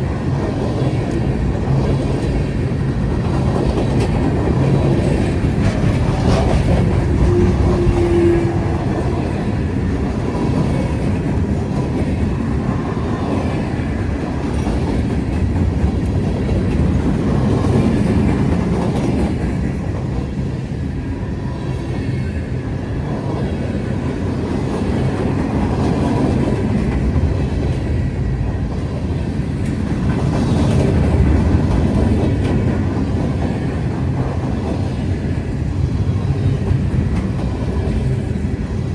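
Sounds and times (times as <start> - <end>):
clickety-clack over rail joints: 0.0 - 38.9
freight train wheels rumbling: 0.0 - 38.9.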